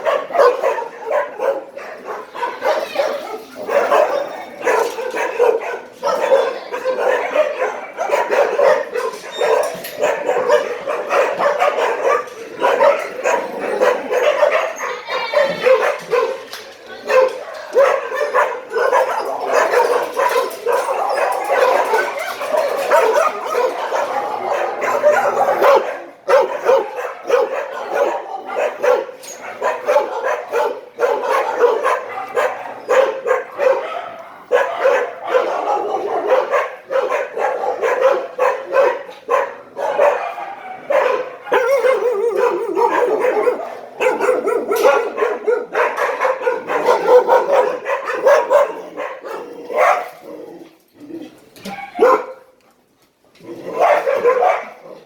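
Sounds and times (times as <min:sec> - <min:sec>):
dogs barking and yipping: 0:00.0 - 0:52.6, 0:53.5 - 0:55.0.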